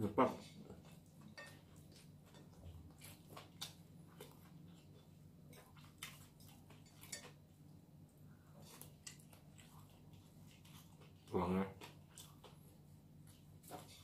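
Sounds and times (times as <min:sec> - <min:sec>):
faint low hum: 0:00.0 - 0:14.0
fried chicken crackling and chewing: 0:00.5 - 0:14.0.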